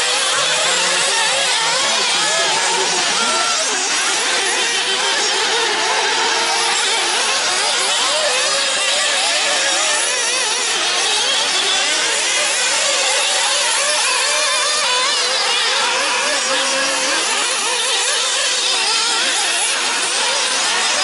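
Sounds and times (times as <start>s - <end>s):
small engines buzzing: 0.0s - 21.0s.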